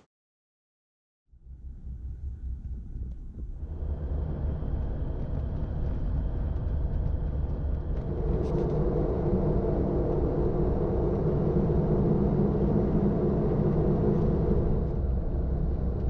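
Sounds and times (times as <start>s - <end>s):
engine and road rumble: 1.4s - 16.0s.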